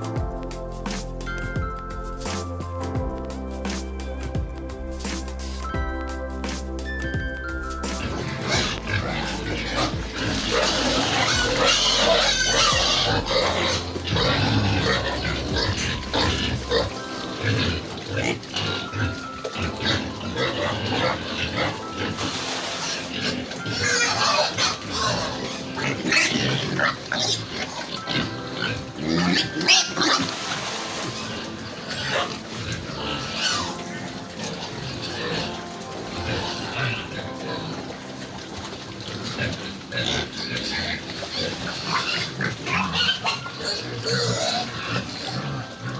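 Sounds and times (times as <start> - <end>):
pigs eating at a trough: 7.8 - 45.9.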